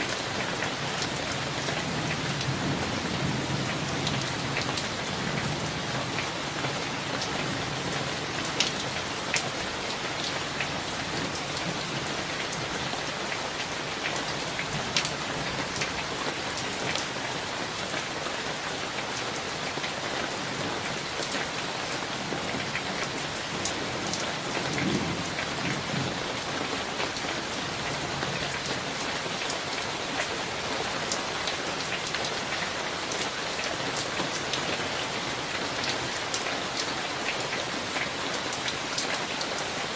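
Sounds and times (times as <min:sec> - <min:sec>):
rain falling on surfaces: 0:00.0 - 0:39.9.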